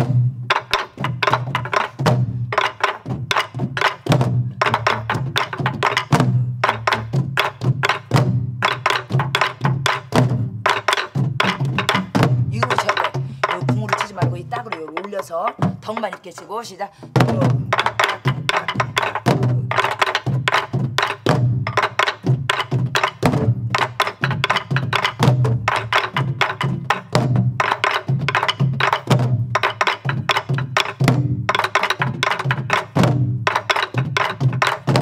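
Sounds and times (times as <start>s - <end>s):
barrel drums thudding: 0.0s - 16.5s, 17.1s - 35.0s.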